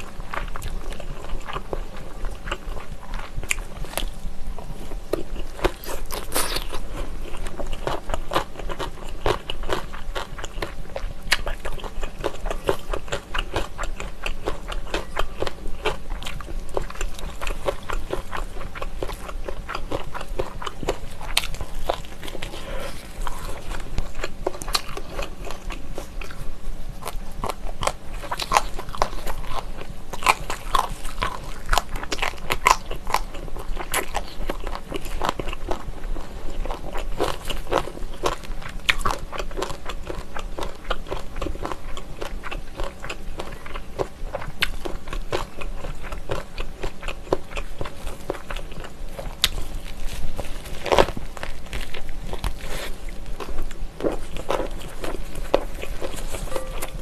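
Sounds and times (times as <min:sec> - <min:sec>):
chewing and mouth sounds: 0:00.0 - 0:57.0.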